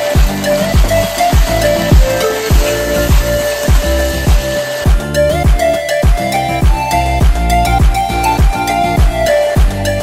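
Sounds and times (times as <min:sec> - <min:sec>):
held melody line: 0:00.0 - 0:10.0
pitch-dropping bass drum: 0:00.2 - 0:09.9.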